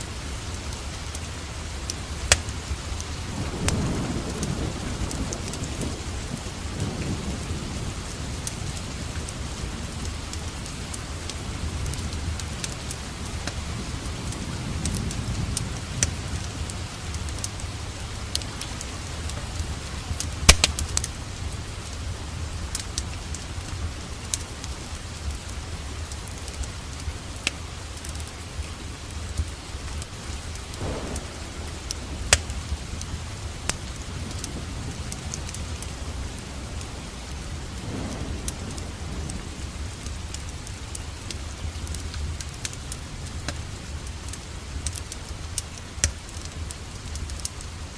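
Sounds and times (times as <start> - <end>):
low rumble of thunder: 0.0 - 45.6
steady rain: 0.0 - 47.9
wood fire crackling and popping: 0.0 - 47.9.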